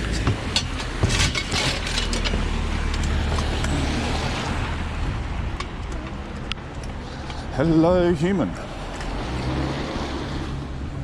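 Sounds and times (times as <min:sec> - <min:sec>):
van engine rumbling: 0:00.0 - 0:11.0.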